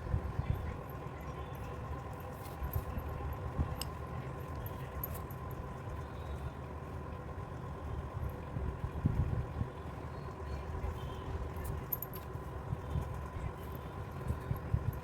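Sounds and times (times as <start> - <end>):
low rumble with faint hum: 0.0 - 15.0.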